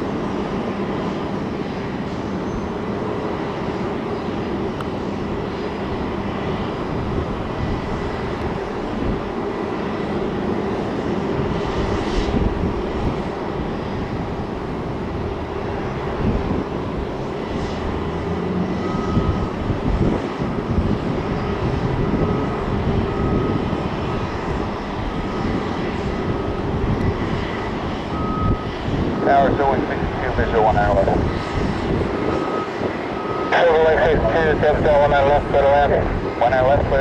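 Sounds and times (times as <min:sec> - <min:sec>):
jet engines rumbling with whine: 0:00.0 - 0:37.0.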